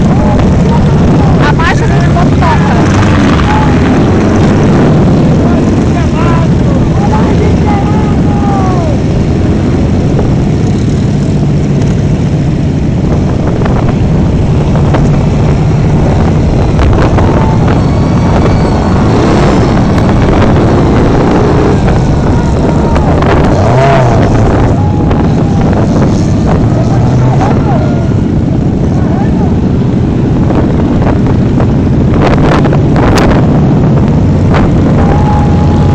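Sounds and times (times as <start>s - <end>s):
motorcycle engines running: 0.0s - 35.9s.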